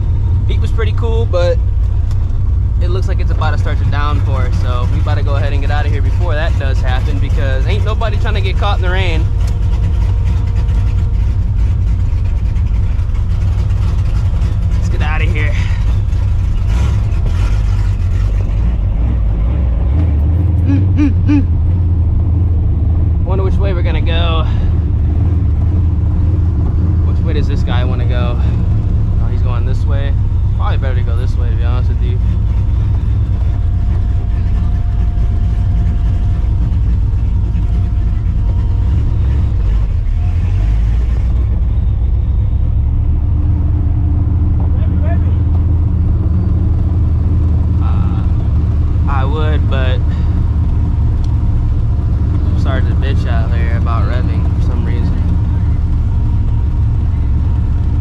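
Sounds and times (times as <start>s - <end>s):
deep exhaust rumble: 0.0s - 58.0s.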